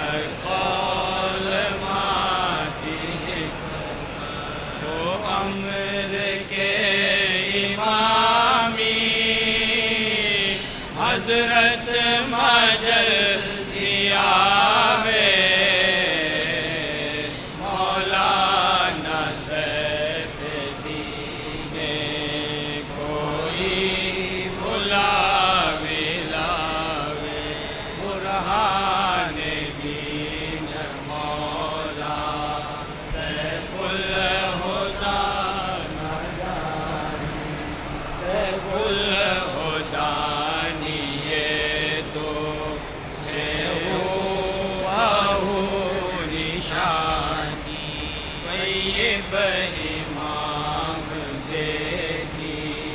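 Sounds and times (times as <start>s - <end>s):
person chanting: 0.0s - 52.9s.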